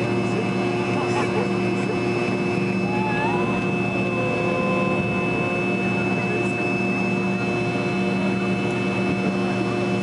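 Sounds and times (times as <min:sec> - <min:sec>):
jet engine low hum and high whine: 0:00.0 - 0:10.0.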